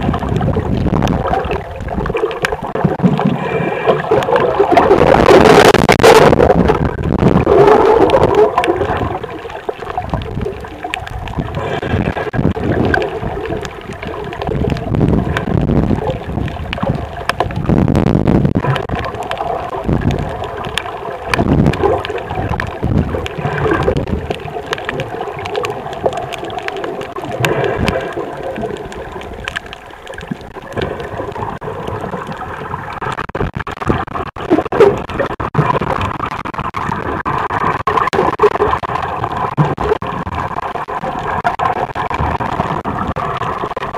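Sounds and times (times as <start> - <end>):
underwater bubbling and gurgling: 0.0 - 43.9.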